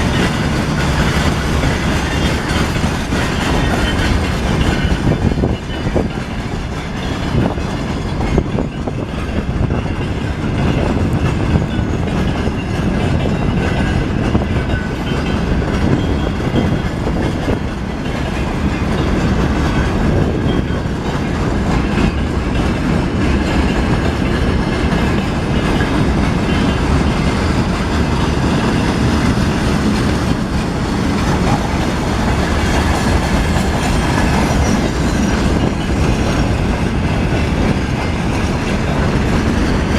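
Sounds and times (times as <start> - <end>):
freight train wagons rumbling: 0.0 - 39.9
wheels clicking over rail joints: 0.0 - 39.9.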